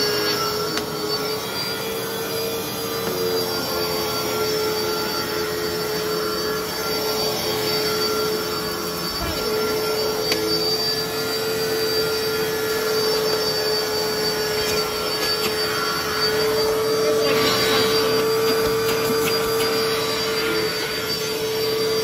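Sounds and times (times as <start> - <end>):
vacuum cleaner high whine: 0.0 - 22.0.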